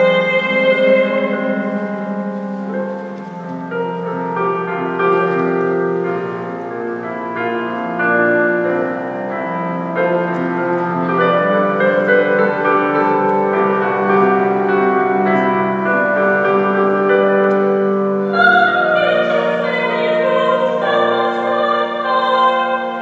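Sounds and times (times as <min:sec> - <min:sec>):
piano accompaniment: 0:00.0 - 0:23.0.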